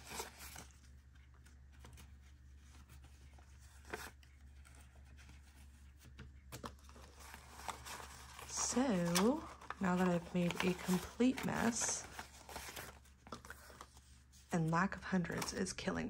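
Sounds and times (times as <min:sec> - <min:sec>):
paper banknotes rustling: 0:00.0 - 0:15.9.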